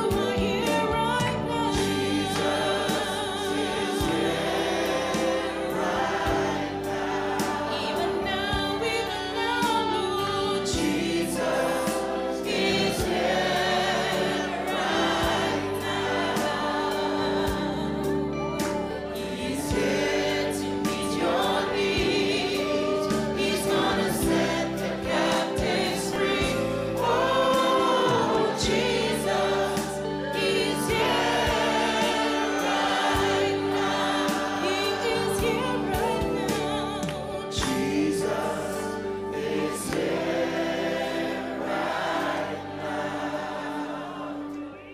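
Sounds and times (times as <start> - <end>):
congregation singing along: 0.0 - 44.9
group singing gospel song: 0.0 - 44.9.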